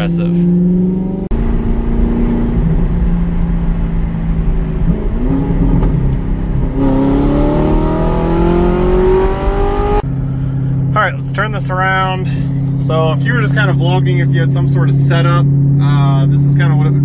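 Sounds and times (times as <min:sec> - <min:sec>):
car engine while driving: 0:00.0 - 0:17.0.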